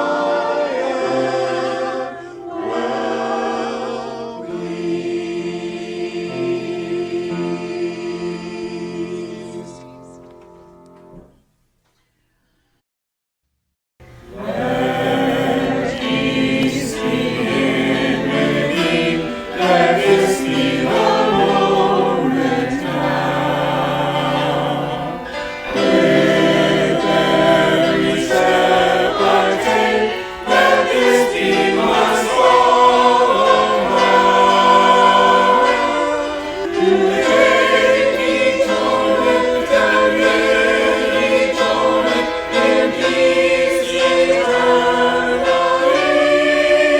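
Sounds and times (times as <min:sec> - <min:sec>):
choir singing a hymn: 0:00.0 - 0:11.2, 0:14.1 - 0:46.9.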